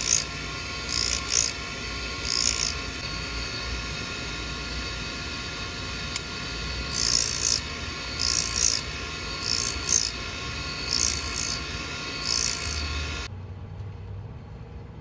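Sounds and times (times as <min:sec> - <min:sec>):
drill bit grinding on wheel: 0:00.0 - 0:13.3
sharpener motor humming: 0:00.0 - 0:13.3.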